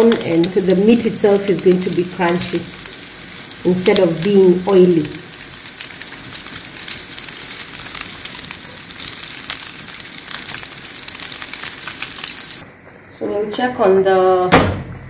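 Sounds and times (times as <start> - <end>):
pork sizzling in a pan: 0.0 - 12.6
spatula turning meat: 0.0 - 12.6.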